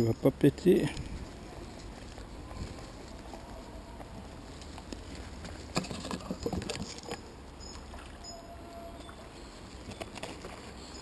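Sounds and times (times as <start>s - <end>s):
leaves and twigs crackling: 0.2s - 11.0s.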